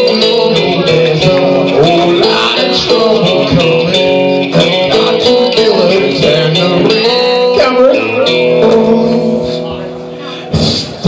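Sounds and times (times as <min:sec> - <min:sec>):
man singing into a microphone: 0:00.0 - 0:11.0
rock backing track: 0:00.0 - 0:11.0.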